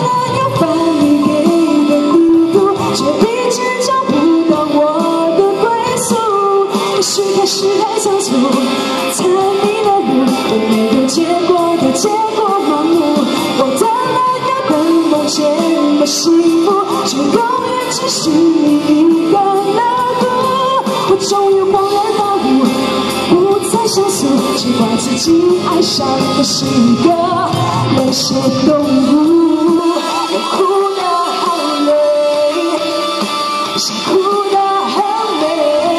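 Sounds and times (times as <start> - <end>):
musical accompaniment: 0.0 - 35.9
woman singing pop song: 0.0 - 35.9.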